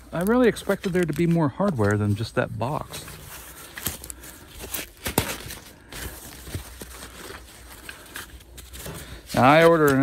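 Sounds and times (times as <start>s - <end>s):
foam wrap and plastic crinkling: 0.0s - 10.0s.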